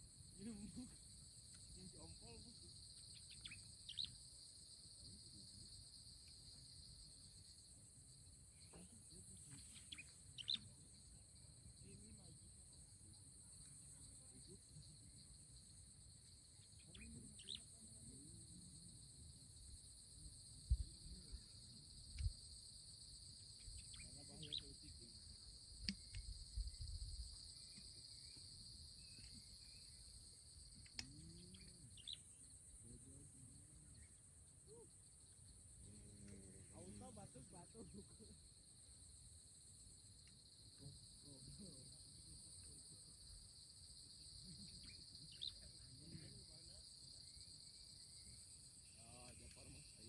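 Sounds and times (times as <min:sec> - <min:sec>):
crickets chirping: 0:00.0 - 0:50.0.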